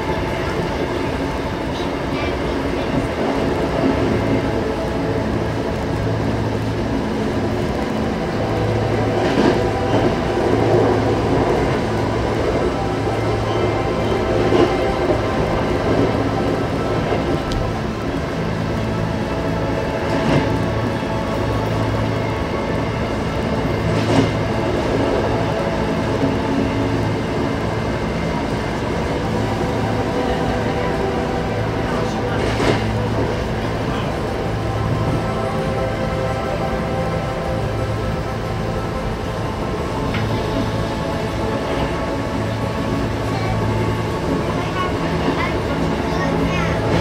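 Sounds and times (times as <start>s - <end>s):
train running hum and rumble: 0.0s - 47.0s.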